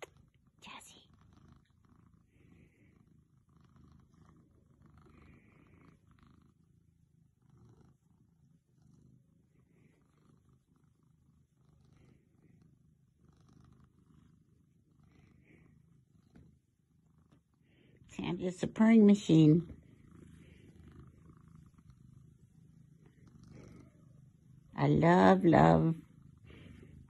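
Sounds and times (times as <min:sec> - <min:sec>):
cat purring faintly: 0:00.0 - 0:27.0.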